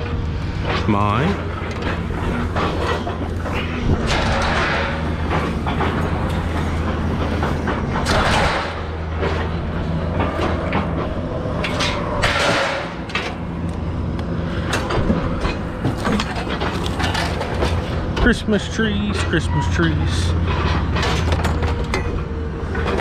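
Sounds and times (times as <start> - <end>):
engine running: 0.0 - 23.0
scrap metal clanking: 0.6 - 13.6, 14.6 - 23.0.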